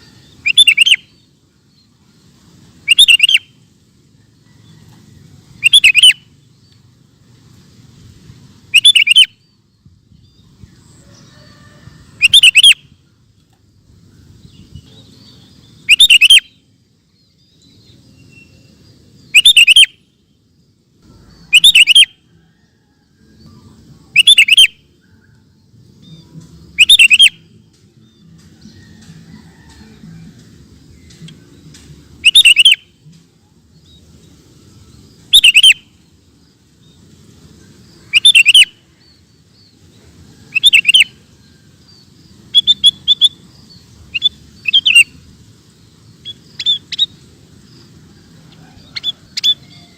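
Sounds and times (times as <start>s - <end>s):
bulbul singing: 0.0s - 11.3s, 12.0s - 49.9s.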